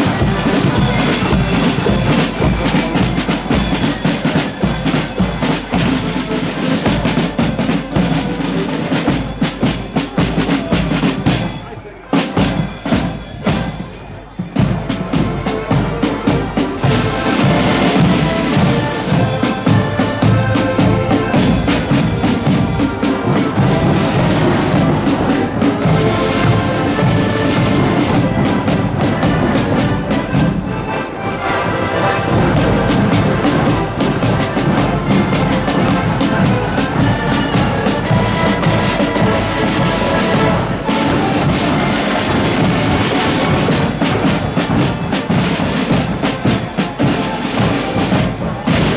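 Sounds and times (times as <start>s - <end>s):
accordions playing march melody: 0.0s - 48.9s
bass drum keeping march time: 0.0s - 48.9s
side drums: 0.0s - 48.9s.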